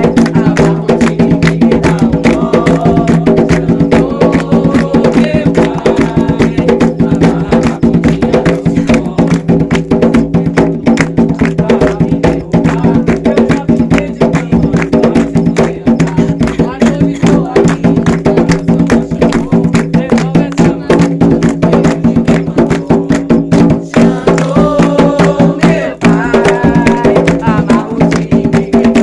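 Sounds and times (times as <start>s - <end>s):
fast hand drumming: 0.0s - 29.0s.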